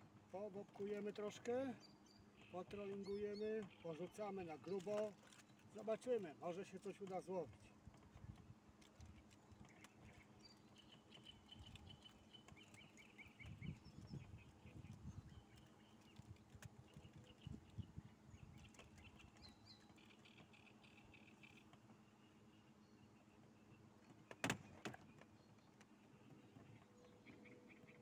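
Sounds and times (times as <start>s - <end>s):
faint birdsong chirps: 0.0s - 28.0s.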